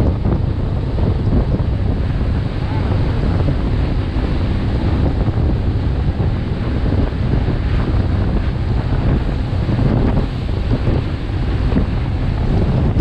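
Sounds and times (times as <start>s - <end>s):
rushing river water: 0.0s - 13.0s
wind rumble on microphone: 0.0s - 13.0s.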